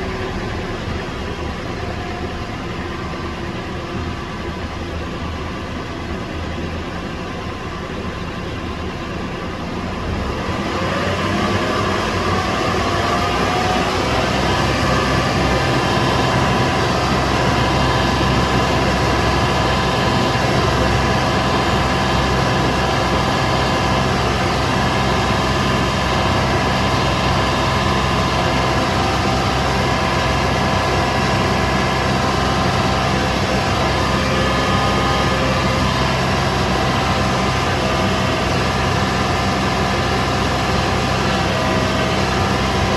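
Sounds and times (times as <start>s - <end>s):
car engine and exhaust from cabin: 0.0s - 42.9s.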